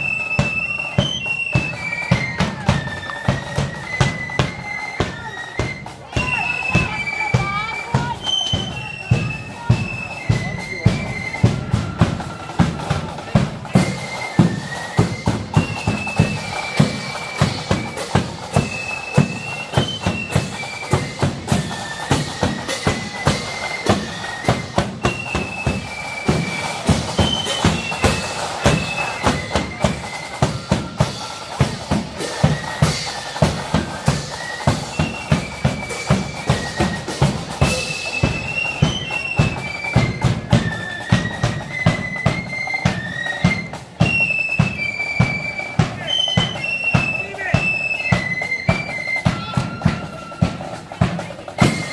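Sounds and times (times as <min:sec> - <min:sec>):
marching band playing: 0:00.0 - 0:51.9.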